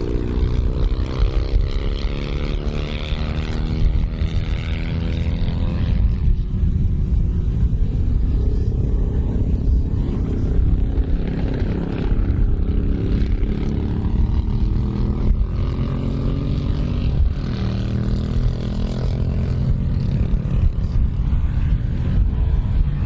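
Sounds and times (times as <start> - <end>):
motorcycle engine running loudly: 0.0 - 23.0.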